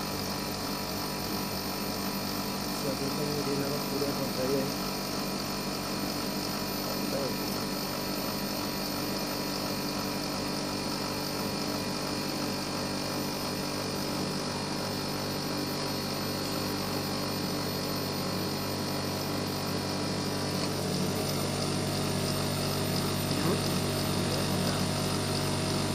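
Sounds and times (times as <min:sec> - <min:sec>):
air conditioner hum: 0:00.0 - 0:25.9.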